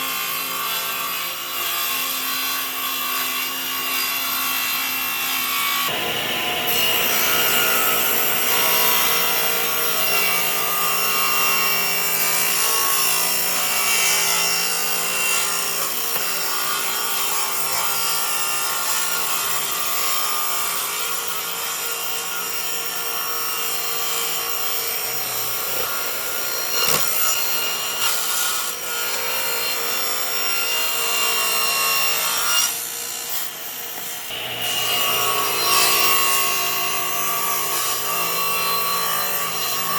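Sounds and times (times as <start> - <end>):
woodworking tool whining: 0.0 - 39.9.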